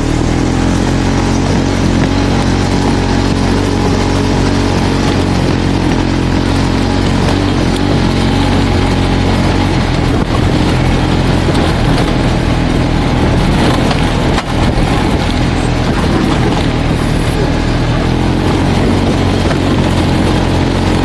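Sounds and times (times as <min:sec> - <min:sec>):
rushing noise: 0:00.0 - 0:21.0
vehicle engine running: 0:00.0 - 0:21.0.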